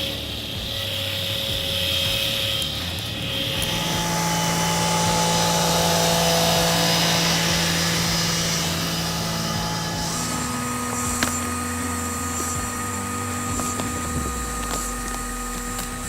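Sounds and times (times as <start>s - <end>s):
heavy machinery engine running: 0.0s - 16.0s.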